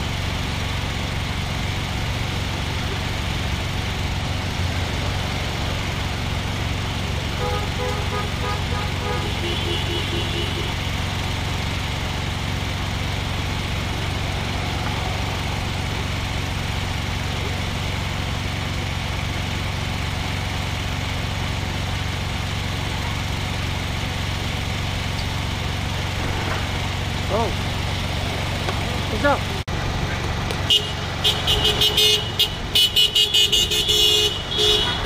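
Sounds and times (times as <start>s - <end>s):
car engine idling: 0.0s - 35.0s
street traffic noise: 0.0s - 35.0s.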